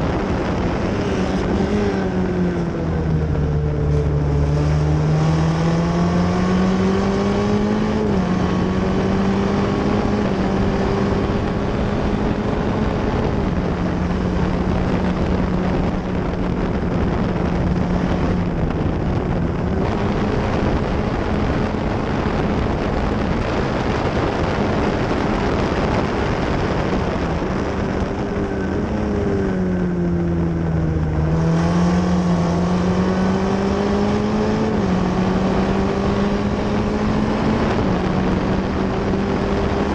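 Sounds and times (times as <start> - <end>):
race car engine at high revs: 0.0 - 39.9
wind rush: 0.0 - 39.9.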